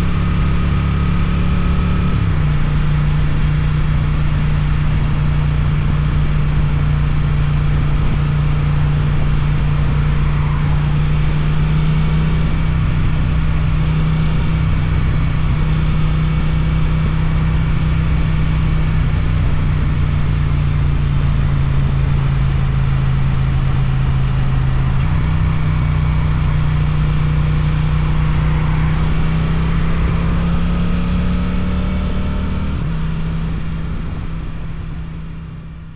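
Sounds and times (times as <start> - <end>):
motorcycle engine while riding: 0.0 - 35.9.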